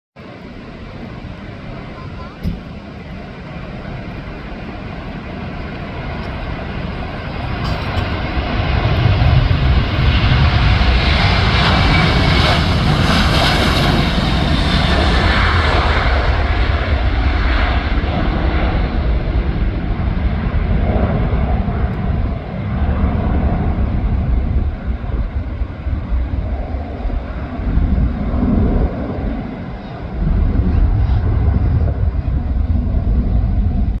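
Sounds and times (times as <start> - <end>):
jet engines at takeoff thrust: 0.2 - 34.0.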